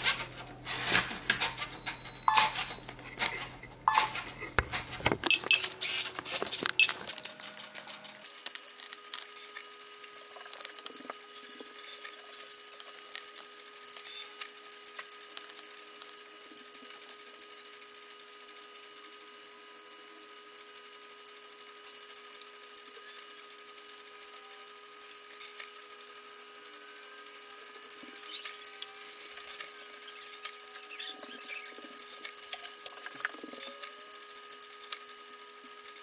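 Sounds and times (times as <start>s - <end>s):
rapid ticking of gears: 6.7s - 36.0s.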